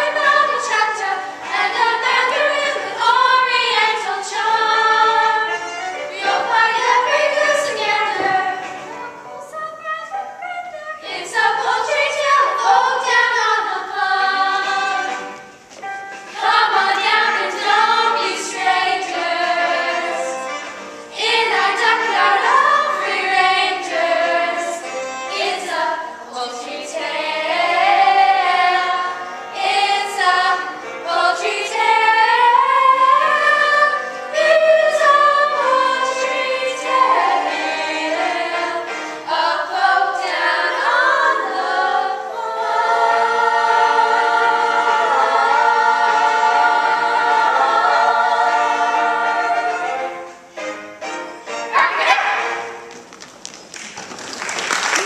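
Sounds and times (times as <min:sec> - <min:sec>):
group of voices singing in chorus: 0:00.0 - 0:09.0, 0:11.0 - 0:15.4, 0:16.4 - 0:50.3.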